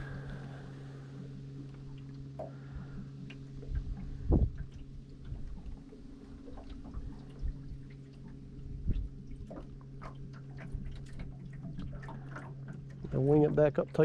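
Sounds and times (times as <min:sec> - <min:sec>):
steady low hum: 0:00.0 - 0:14.0
water dripping and lapping: 0:00.0 - 0:14.0.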